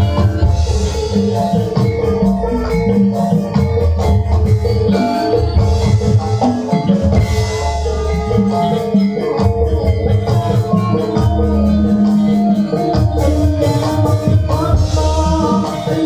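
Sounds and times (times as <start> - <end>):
mallet-struck metallophones ringing: 0.0 - 16.0.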